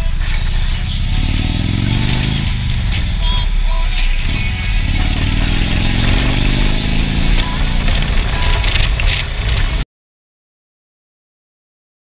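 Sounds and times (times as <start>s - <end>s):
motorcycle engine accelerating: 0.0s - 9.8s
wind and road noise: 0.0s - 9.8s.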